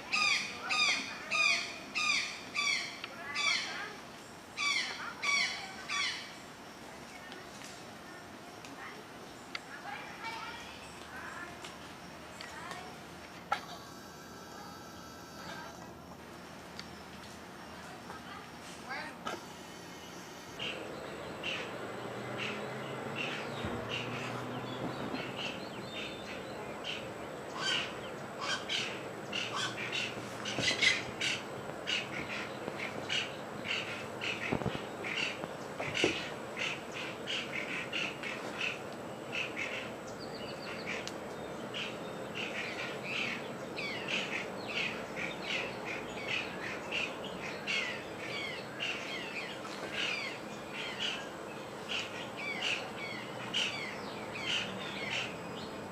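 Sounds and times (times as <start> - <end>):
chorus of bird calls: 0.0 - 6.5, 17.6 - 55.9.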